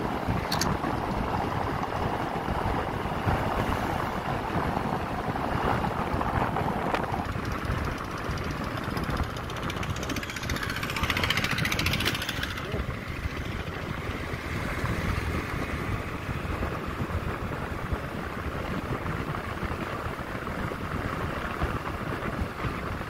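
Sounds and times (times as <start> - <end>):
vehicle engine and tyre noise: 0.0 - 23.0
wind buffeting microphone: 0.0 - 23.0.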